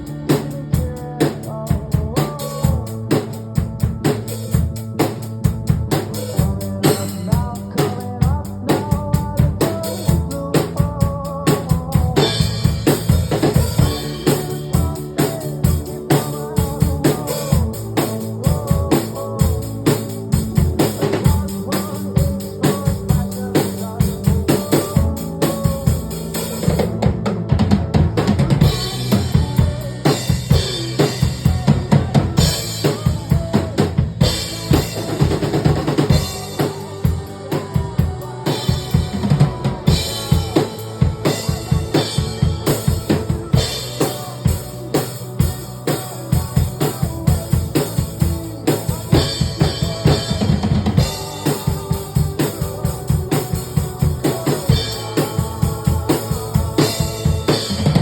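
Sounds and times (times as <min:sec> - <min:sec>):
music with drum kit: 0:00.0 - 0:58.0.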